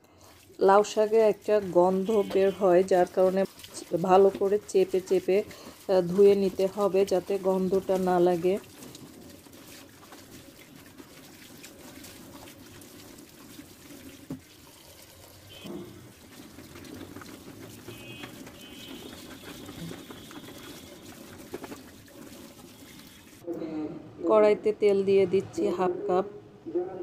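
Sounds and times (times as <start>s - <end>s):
hands squeezing wet leaves: 0.0s - 23.4s
tap water running into colander: 0.2s - 23.4s.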